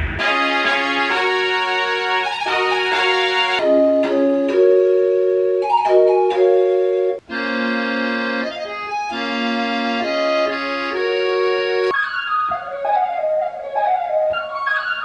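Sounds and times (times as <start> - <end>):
organ-like synth chords: 0.0 - 13.3
higher synth melody: 0.0 - 15.0.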